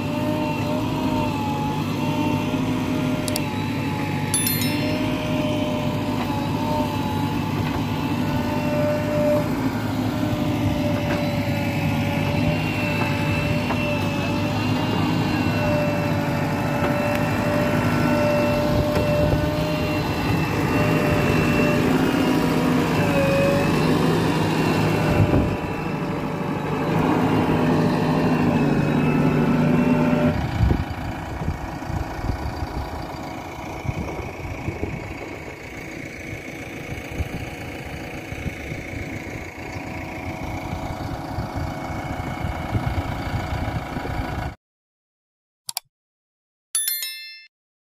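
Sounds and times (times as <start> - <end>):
diesel engine with high whine: 0.0 - 44.6.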